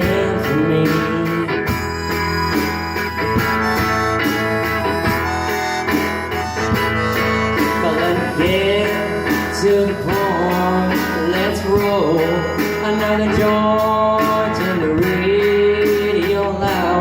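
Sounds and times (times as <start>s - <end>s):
harmonica: 0.0s - 17.0s
steady drum beat: 0.0s - 17.0s
strummed guitar: 0.0s - 17.0s.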